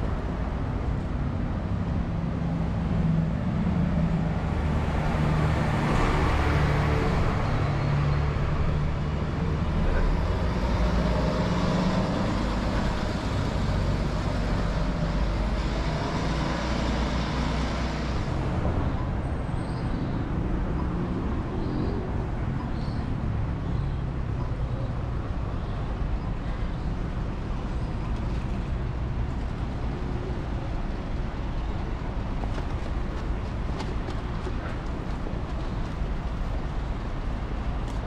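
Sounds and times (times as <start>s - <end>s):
bus passing: 0.0s - 38.0s
road traffic rumble: 0.0s - 38.0s.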